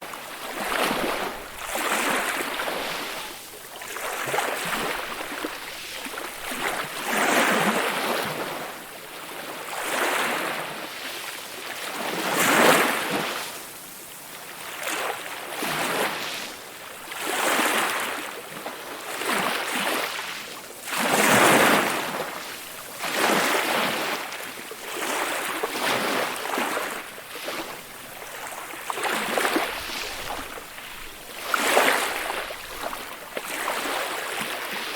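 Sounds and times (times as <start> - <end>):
small waves breaking on shore: 0.0 - 34.9.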